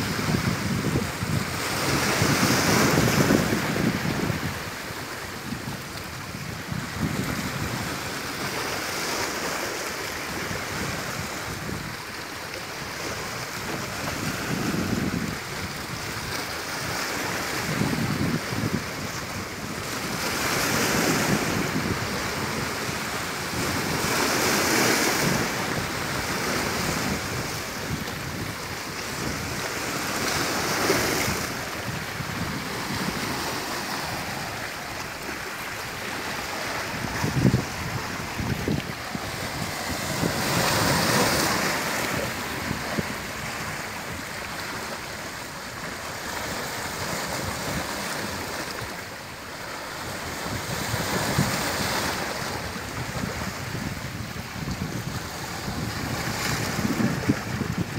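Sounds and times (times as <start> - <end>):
sea waves washing ashore: 0.0 - 57.9
wind on microphone: 0.0 - 57.9.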